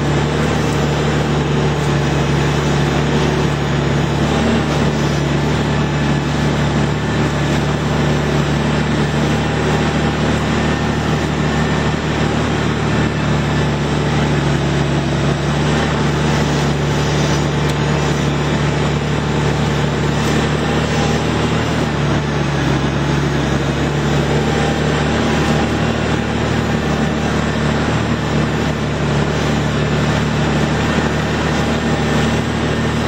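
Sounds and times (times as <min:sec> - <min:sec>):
tractor diesel engine droning: 0:00.0 - 0:33.0.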